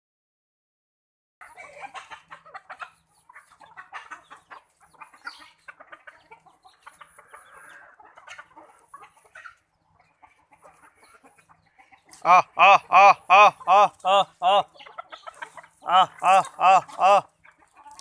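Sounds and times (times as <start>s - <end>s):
chickens clucking: 1.4s - 18.0s.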